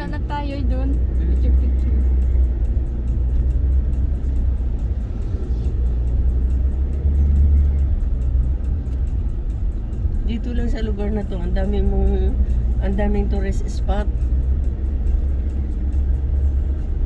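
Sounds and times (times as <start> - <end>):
vehicle driving low rumble: 0.0 - 17.0.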